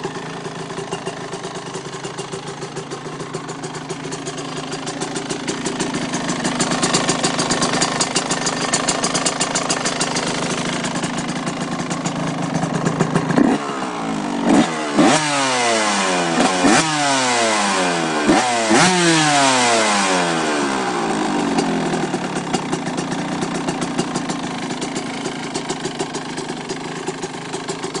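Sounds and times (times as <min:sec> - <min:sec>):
two-stroke engine idling and revving: 0:00.0 - 0:28.0.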